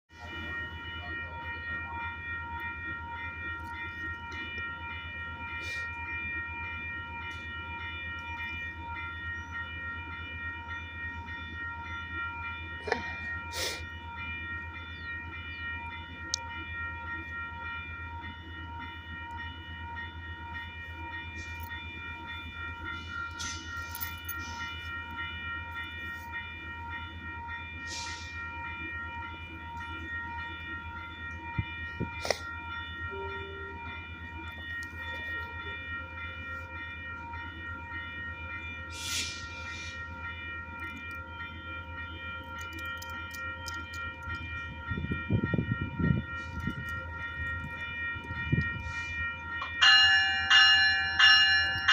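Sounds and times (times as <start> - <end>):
train locomotive hum and whine: 0.1 - 51.9.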